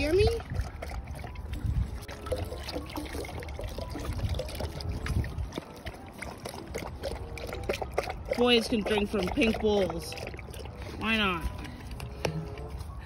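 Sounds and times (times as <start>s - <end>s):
water pouring into metal bowl: 0.0s - 11.5s
dog lapping water: 0.0s - 13.0s.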